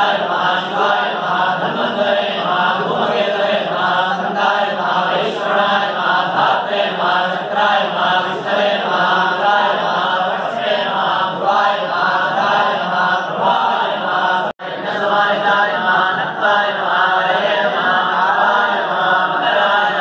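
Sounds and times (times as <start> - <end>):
priests chanting in unison: 0.0 - 20.0.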